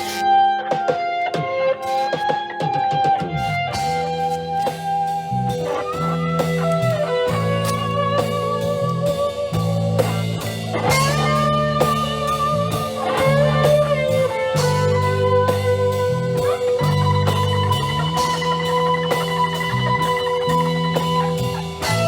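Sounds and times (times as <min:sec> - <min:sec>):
drum beat: 0:00.0 - 0:22.0
electric guitar lead notes: 0:00.0 - 0:22.0
bass line: 0:03.5 - 0:22.0.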